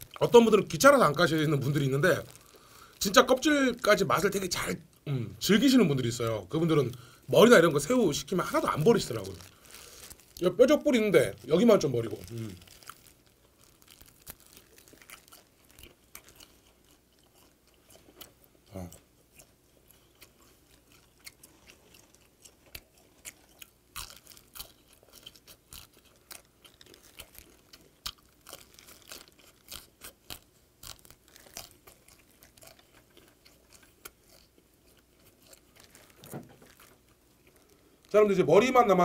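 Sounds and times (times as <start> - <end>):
chewing crunchy shrimp: 0.0 - 4.0, 6.2 - 38.2.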